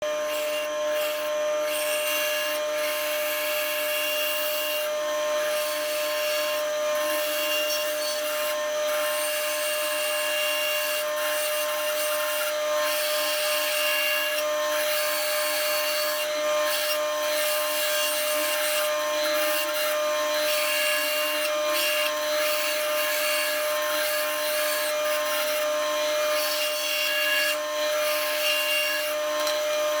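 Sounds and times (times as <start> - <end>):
power saw cutting wood: 0.0 - 30.0.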